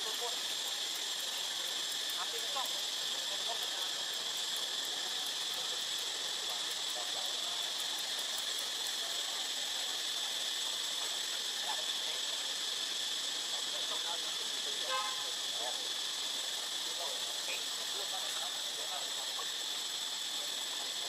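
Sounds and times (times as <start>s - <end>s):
faint insect chirps: 0.0s - 21.0s
insect chorus drone: 0.0s - 21.0s.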